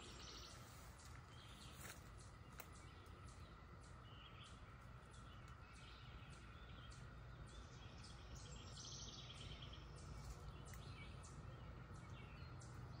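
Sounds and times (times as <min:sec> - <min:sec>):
cicadas humming: 0:00.0 - 0:13.0.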